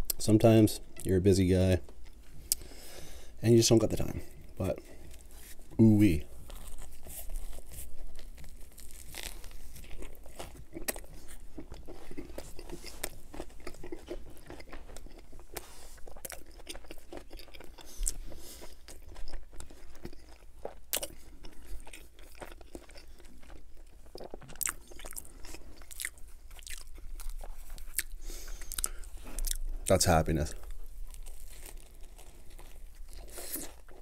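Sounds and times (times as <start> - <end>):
man chewing and crunching: 3.9 - 34.0.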